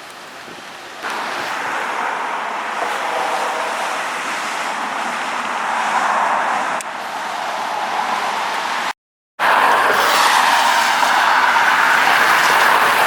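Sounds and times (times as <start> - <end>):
car tyres hissing on road: 0.1 - 13.0.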